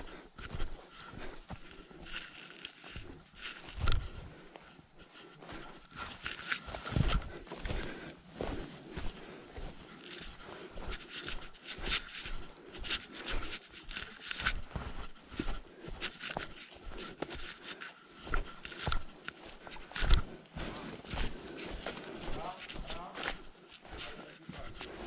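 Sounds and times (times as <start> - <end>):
rustling and scraping: 0.0 - 7.8, 9.1 - 25.0.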